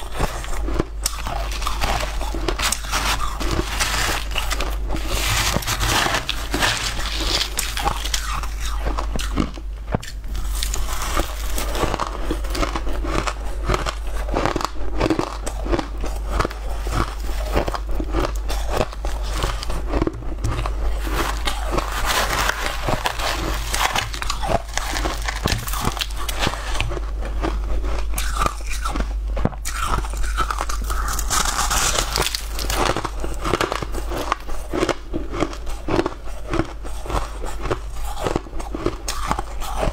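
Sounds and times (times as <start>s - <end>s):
chewing crushed ice crunches: 0.0s - 39.9s
steady low hum: 0.0s - 39.9s.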